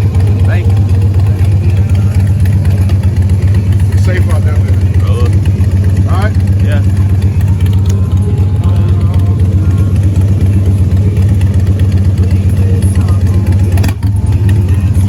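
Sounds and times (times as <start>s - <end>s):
car engine idling: 0.0s - 15.0s
faint voices: 0.0s - 15.0s.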